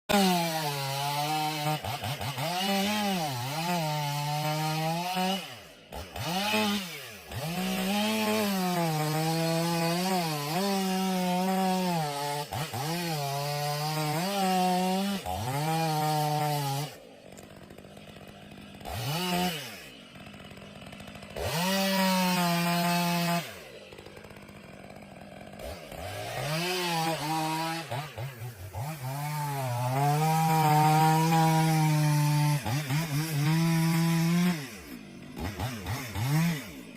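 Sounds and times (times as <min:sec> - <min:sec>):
chainsaw cutting wood: 0:00.1 - 0:36.9.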